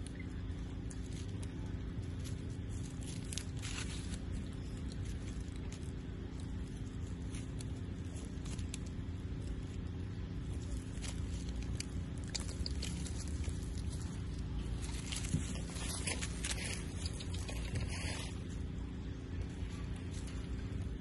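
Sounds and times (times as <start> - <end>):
crackles on dry leaves: 0.0 - 21.0
steady low rumble: 0.0 - 21.0
monkeys chewing food: 0.1 - 18.7.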